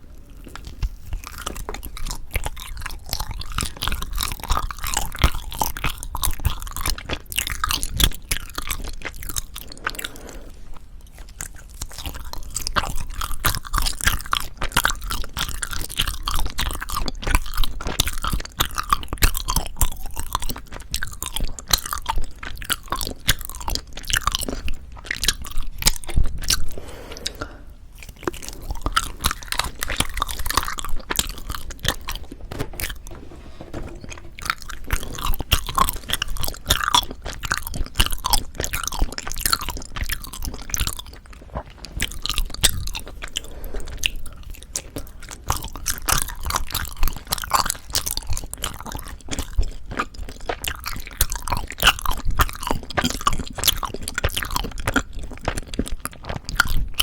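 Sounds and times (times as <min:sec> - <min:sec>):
chewing sticky rice cake: 0:00.0 - 0:33.1, 0:34.0 - 0:57.0.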